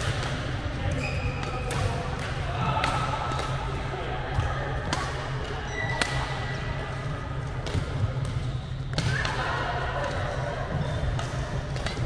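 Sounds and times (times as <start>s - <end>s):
rackets hitting shuttlecock: 0.0s - 6.8s, 7.4s - 12.0s.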